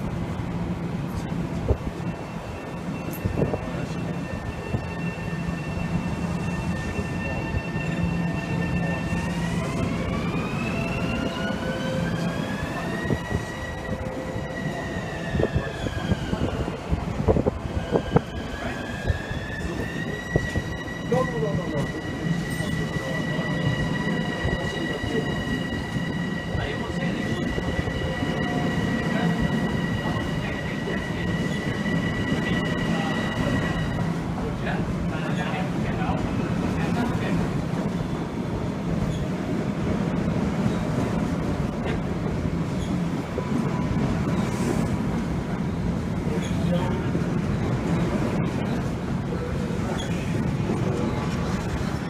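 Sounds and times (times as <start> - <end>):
train whine: 0.0 - 52.0.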